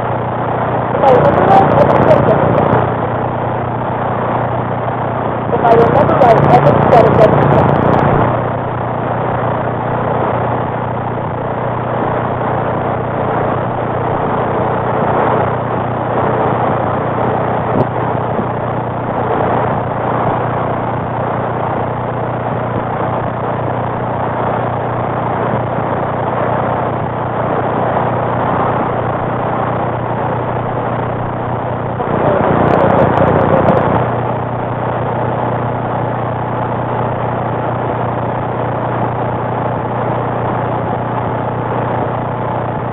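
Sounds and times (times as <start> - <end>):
radio static hiss: 0.0 - 42.9
steady low hum: 0.0 - 42.9.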